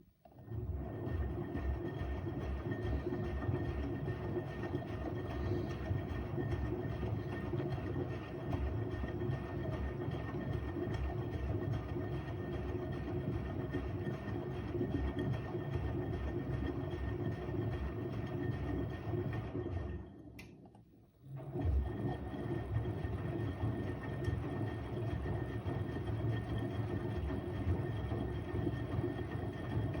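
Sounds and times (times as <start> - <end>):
washing machine rumbling: 0.4 - 20.6, 21.3 - 30.0.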